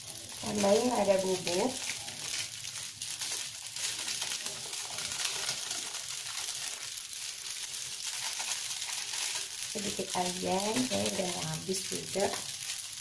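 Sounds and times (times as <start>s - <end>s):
frying hiss in a wok: 0.0s - 13.0s
stirring noises: 0.0s - 13.0s.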